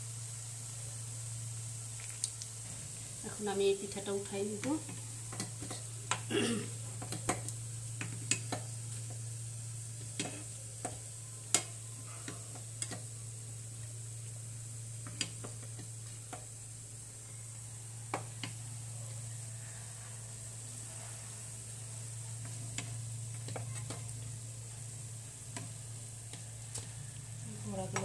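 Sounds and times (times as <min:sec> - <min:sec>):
fritters sizzling in hot oil: 0:00.0 - 0:28.0.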